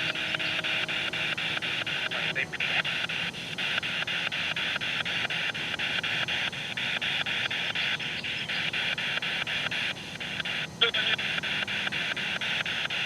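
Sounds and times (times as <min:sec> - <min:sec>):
radio static chopped into bursts: 0:00.0 - 0:13.0.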